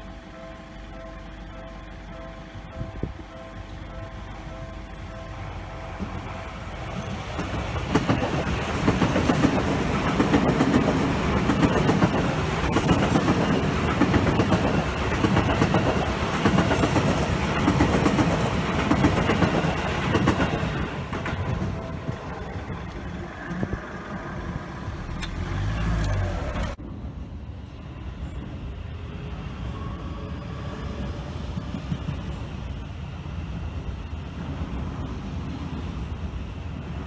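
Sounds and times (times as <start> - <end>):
train passing on rails: 0.0 - 37.0.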